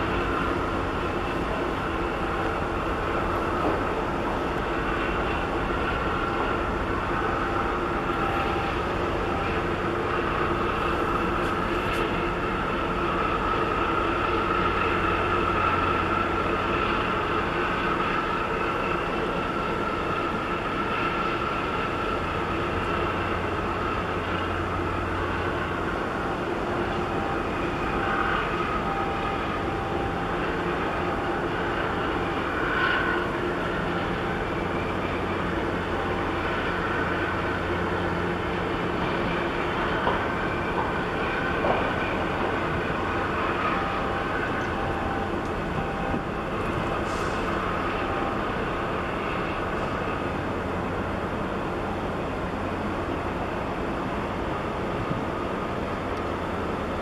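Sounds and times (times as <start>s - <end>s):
ship diesel machinery drone: 0.0s - 57.0s
steady whine: 0.0s - 57.0s.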